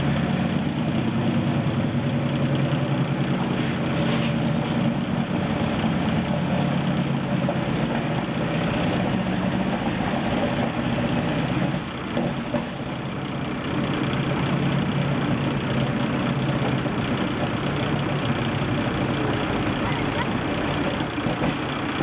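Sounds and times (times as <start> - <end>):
tank engine running: 0.0 - 22.0.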